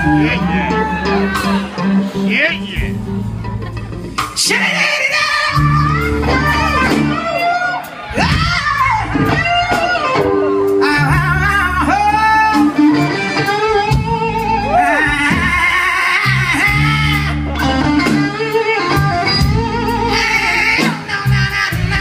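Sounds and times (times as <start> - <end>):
bass line: 0.0 - 22.0
electric guitar bending notes: 0.0 - 22.0.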